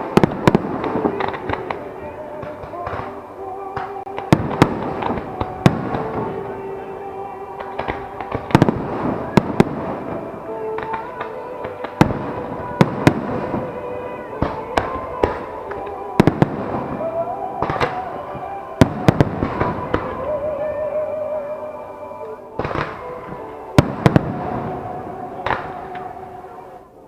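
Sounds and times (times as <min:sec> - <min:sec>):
fireworks bangs: 0:00.0 - 0:26.9
fireworks crackling: 0:00.0 - 0:27.0
music: 0:00.0 - 0:27.0.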